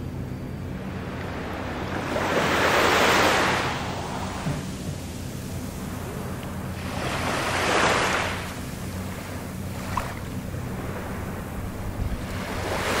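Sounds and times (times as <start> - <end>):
steady low rumble: 0.0 - 13.0
small waves washing on beach: 0.7 - 13.0.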